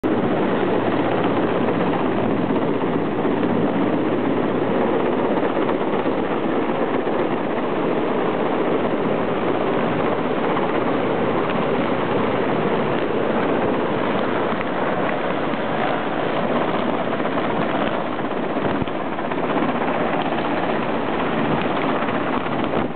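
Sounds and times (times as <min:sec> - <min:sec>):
helicopter flying overhead: 0:00.0 - 0:22.9.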